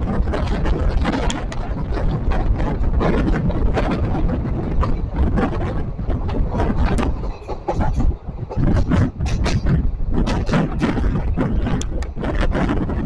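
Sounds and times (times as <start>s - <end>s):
train rumbling: 0.0s - 13.0s
wheels rattling and clattering: 0.0s - 13.0s
wind noise: 0.0s - 13.0s.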